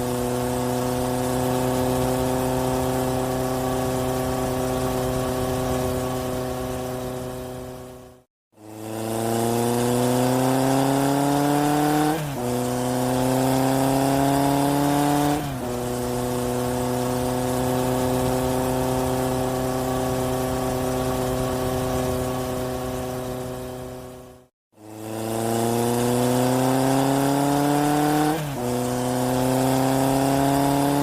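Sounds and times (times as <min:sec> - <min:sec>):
vehicle engine accelerating: 0:00.0 - 0:31.0.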